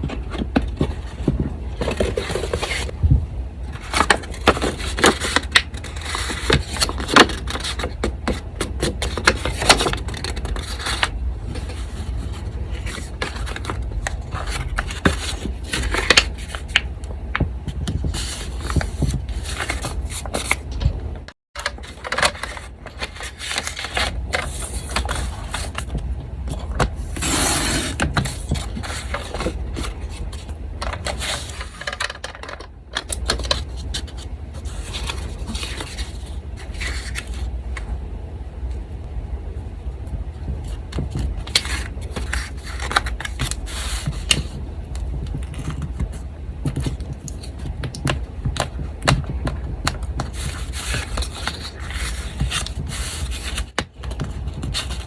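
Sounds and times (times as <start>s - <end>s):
paper rustling and scraping: 0.0s - 2.9s, 3.7s - 16.8s, 17.7s - 20.7s, 21.6s - 37.9s, 40.4s - 48.7s, 50.0s - 55.0s
low fan hum: 0.0s - 55.0s.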